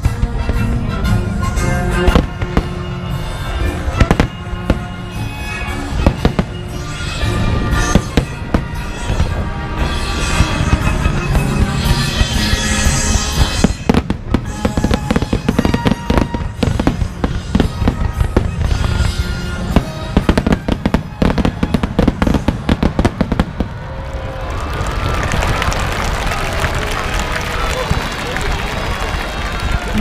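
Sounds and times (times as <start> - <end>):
music playing: 0.0 - 23.7, 26.9 - 30.0
fireworks bursting and crackling: 0.0 - 30.0.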